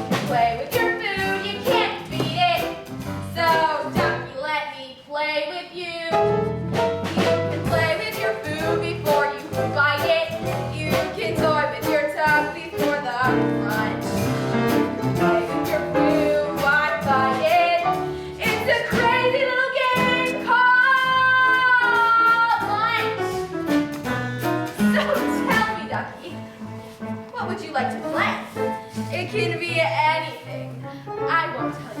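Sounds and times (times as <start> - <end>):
lively stage dance music: 0.0 - 4.3, 6.1 - 30.2.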